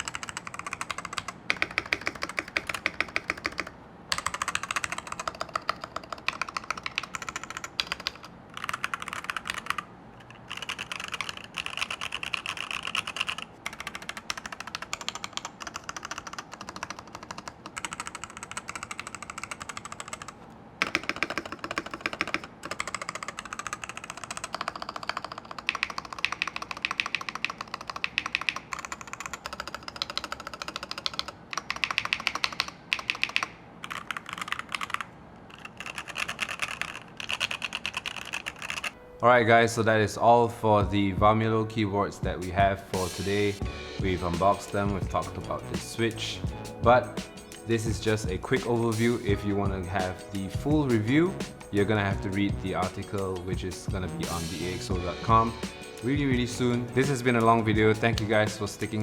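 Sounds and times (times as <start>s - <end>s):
mechanical keyboard typing: 0.0s - 39.0s, 44.2s - 59.0s.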